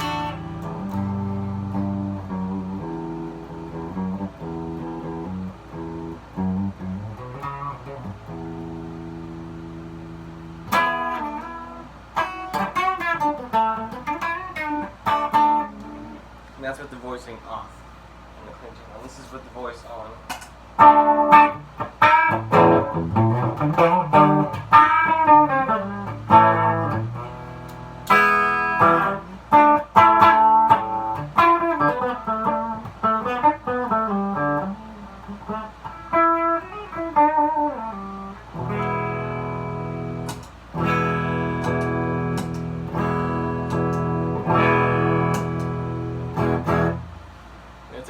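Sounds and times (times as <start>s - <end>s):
clean electric guitar: 0.0s - 16.3s, 20.3s - 47.2s.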